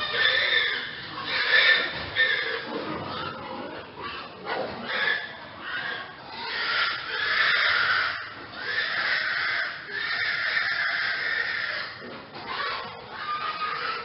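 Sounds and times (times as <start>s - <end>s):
pig squealing: 0.0s - 14.0s.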